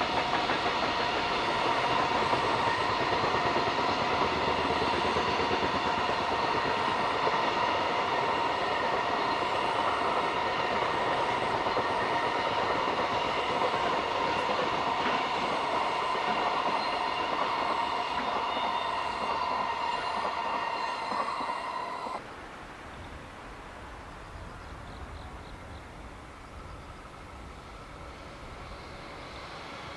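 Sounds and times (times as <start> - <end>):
freight train wheels squealing: 0.0 - 22.2, 26.4 - 29.9.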